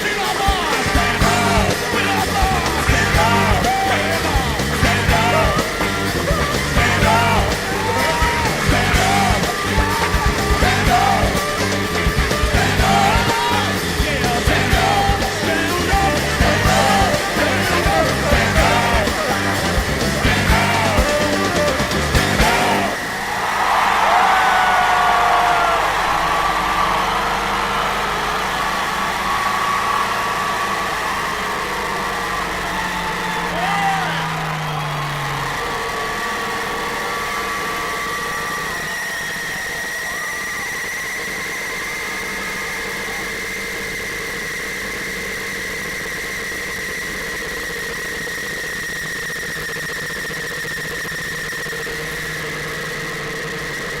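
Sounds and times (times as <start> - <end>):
high-pitched whine: 0.0 - 54.0
motorcycle engine running: 0.0 - 54.0.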